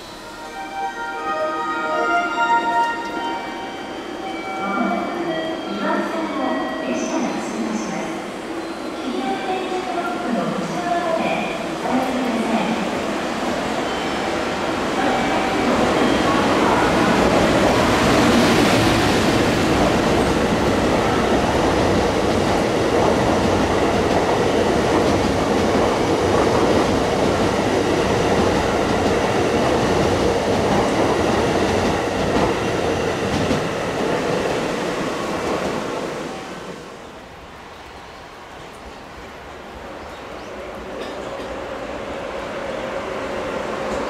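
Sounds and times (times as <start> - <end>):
train wheels rolling on rail: 5.6 - 44.0.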